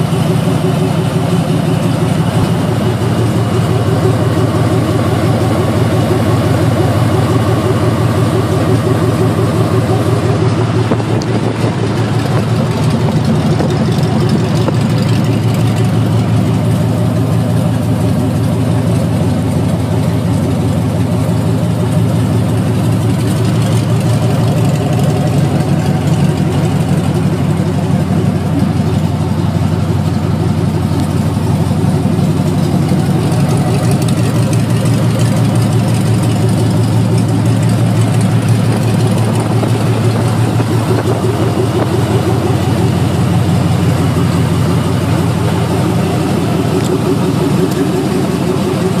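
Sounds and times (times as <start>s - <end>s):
vee eight engine idling: 0.0s - 49.0s.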